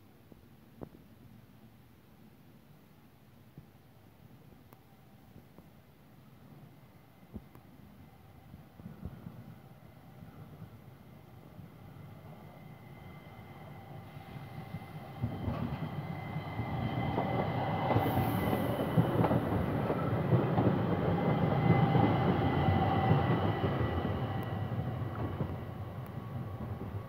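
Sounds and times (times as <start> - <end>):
electric train passing on rails: 4.2 - 27.0.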